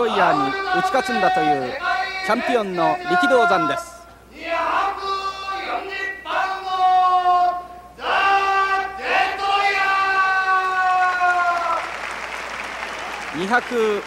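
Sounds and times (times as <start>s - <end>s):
ring announcer sing-song call: 0.0s - 11.3s.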